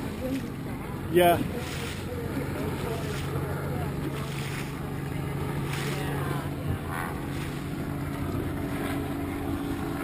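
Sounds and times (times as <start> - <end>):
boat motor humming: 0.0 - 10.0
water noise: 0.0 - 10.0.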